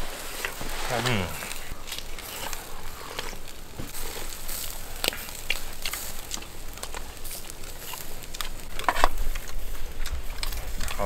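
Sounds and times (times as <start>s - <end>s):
person chewing: 0.2s - 11.0s
light clicks and crackles: 0.4s - 11.0s.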